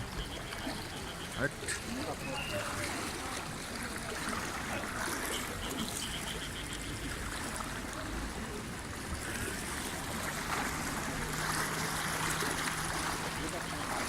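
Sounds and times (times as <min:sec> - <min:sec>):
floodwater flowing and trickling: 0:00.0 - 0:14.0.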